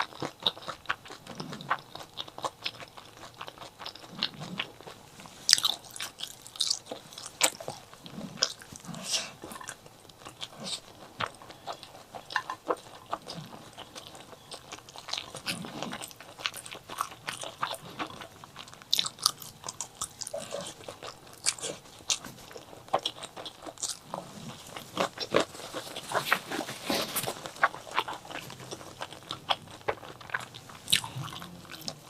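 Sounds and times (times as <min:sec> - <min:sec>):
chewing with small crunches: 0:00.0 - 0:32.0.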